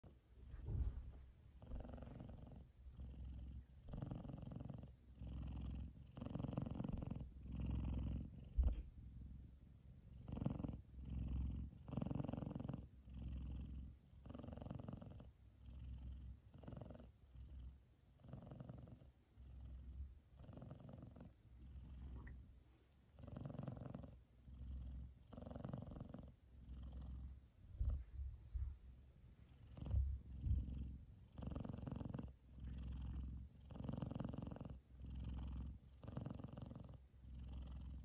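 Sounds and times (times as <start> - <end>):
cat purring loudly: 0.6 - 22.4, 23.2 - 28.7, 29.4 - 38.0.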